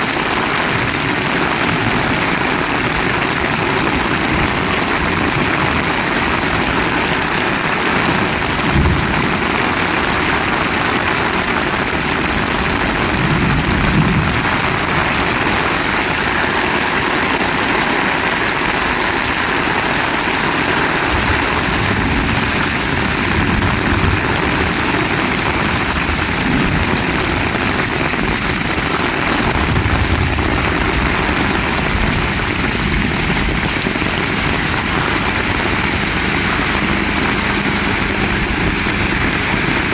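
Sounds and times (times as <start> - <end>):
heavy rain falling: 0.0 - 39.9
low rumbles: 0.5 - 39.9.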